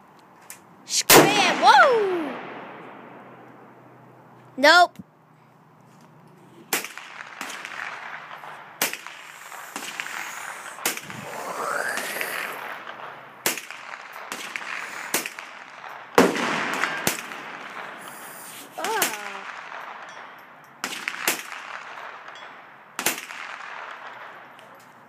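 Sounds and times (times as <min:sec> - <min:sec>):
rifle shots echoing: 0:01.0 - 0:04.0, 0:06.6 - 0:24.6.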